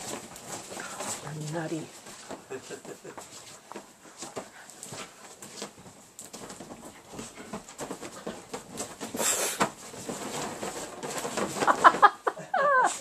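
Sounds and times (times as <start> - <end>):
paws scuffling: 0.0 - 12.4
blankets rustling: 0.0 - 13.0.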